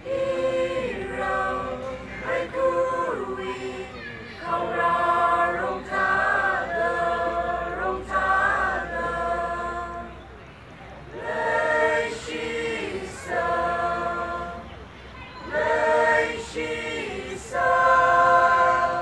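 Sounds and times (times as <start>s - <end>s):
choir singing: 0.0s - 10.4s, 11.1s - 19.0s.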